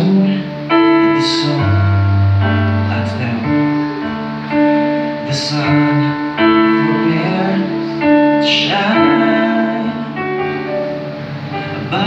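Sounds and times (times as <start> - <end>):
man singing a hymn: 0.0 - 4.1, 5.2 - 10.7, 11.7 - 12.0
digital piano: 0.0 - 12.0.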